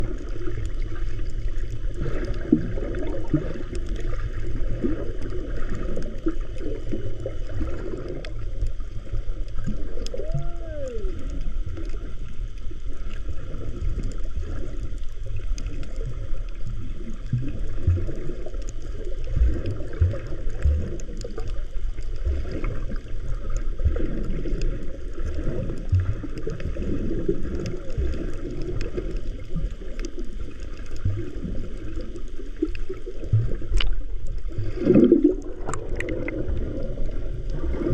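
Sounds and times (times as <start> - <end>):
muffled water gurgling underwater: 0.0 - 37.9.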